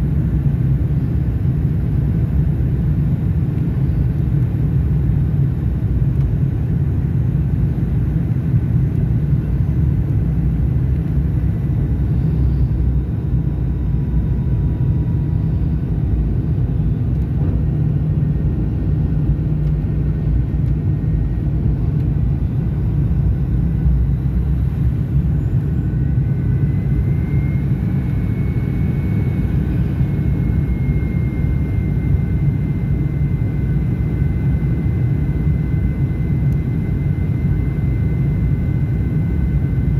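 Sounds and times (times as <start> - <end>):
airliner cabin roar: 0.0 - 39.9
faint high whine: 3.2 - 5.4, 7.4 - 39.9.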